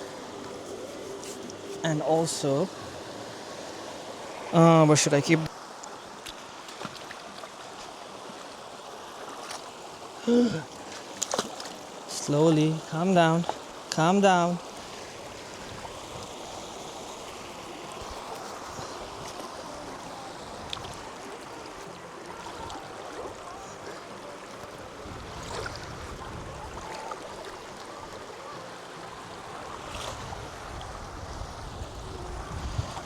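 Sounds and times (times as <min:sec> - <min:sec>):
river water flowing over rocks: 0:00.0 - 0:33.0.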